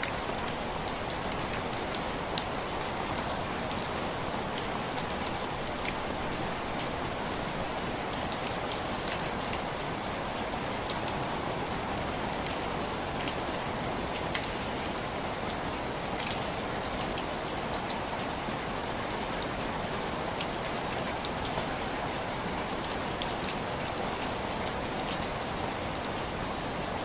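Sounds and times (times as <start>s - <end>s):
rain on window glass: 0.0s - 27.0s.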